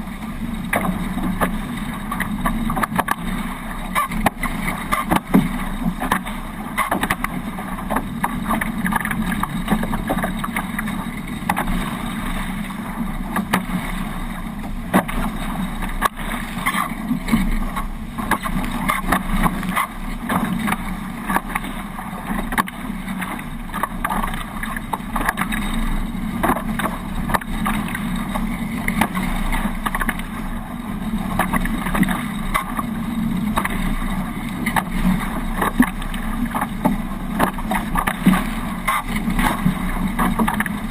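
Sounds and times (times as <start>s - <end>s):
water and wind rushing: 0.0s - 40.9s.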